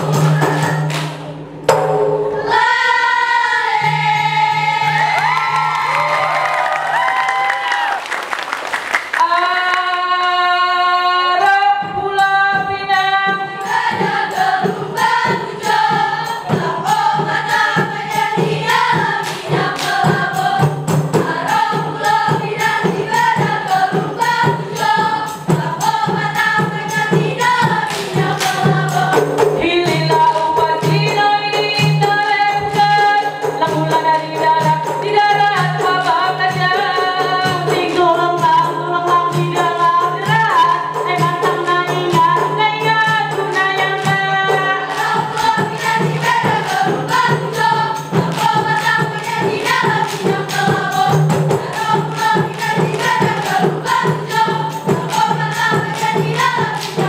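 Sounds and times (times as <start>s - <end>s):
women singing in unison: 0.0s - 1.2s, 2.4s - 8.0s, 9.2s - 57.0s
fast percussion beats: 0.0s - 10.5s, 11.3s - 57.0s.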